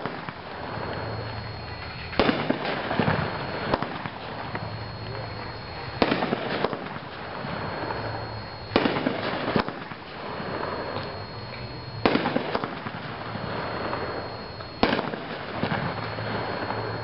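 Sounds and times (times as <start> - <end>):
fireworks bangs: 0.0 - 16.8.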